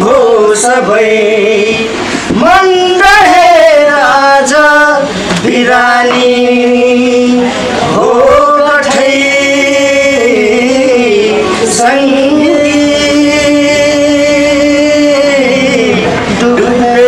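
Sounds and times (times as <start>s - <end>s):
man singing slowly: 0.0s - 17.0s.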